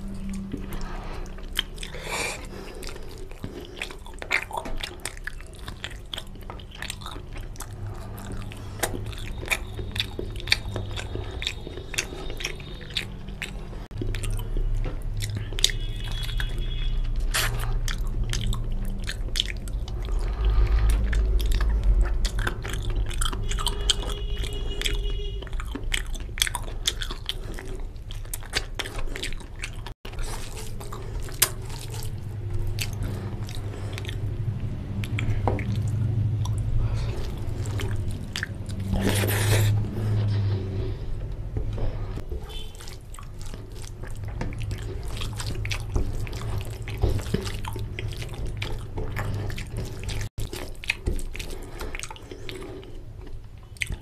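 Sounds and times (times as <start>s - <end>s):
wet mouth clicks and smacks: 0.0s - 36.7s, 42.4s - 54.0s
steady low hum: 0.0s - 53.9s
chewing and crunching bone: 0.0s - 54.0s.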